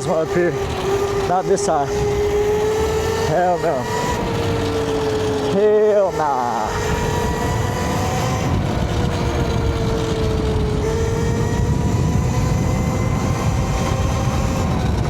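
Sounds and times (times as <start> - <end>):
electric motor whine: 0.0 - 15.0
wind rumble on microphone: 0.0 - 15.0.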